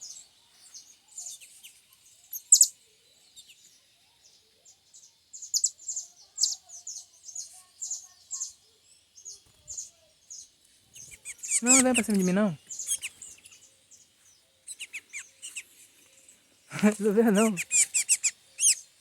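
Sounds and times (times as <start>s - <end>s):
small songbird chirping: 0.0s - 19.0s.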